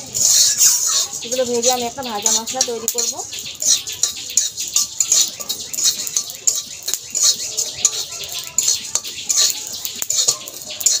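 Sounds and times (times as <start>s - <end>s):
seeds scraped in metal pan: 0.0s - 11.0s.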